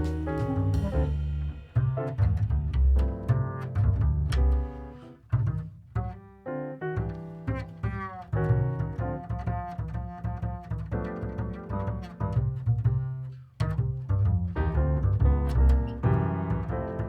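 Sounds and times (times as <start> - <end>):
plucked bass line: 0.0 - 17.0.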